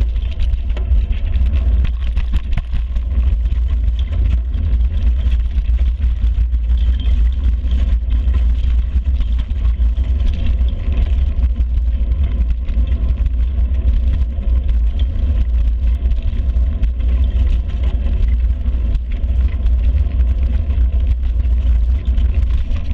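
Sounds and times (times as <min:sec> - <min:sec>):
bicycle road vibration rumble: 0:00.0 - 0:22.9
wind buffeting microphone: 0:00.0 - 0:22.9.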